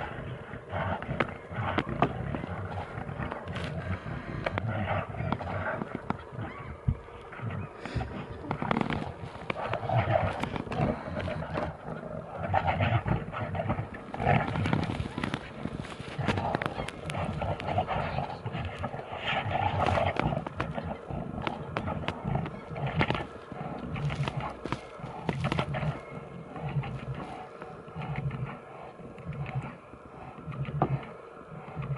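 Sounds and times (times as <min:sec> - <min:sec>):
bears growling and roaring: 0:00.0 - 0:31.9.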